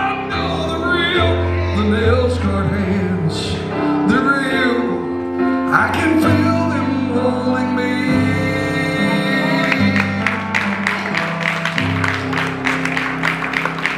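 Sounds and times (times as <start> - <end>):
electric keyboard chords: 0.0 - 13.9.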